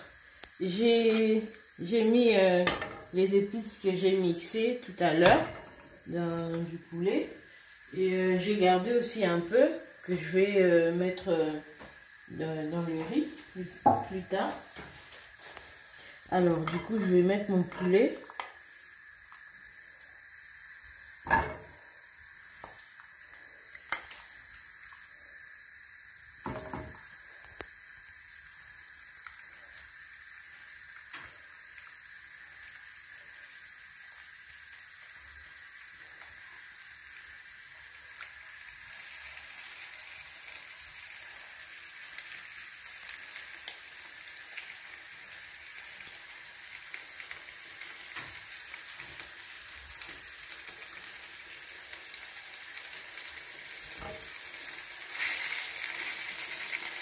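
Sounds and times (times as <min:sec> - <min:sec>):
chicken sizzling in a pot: 0:00.0 - 0:57.0.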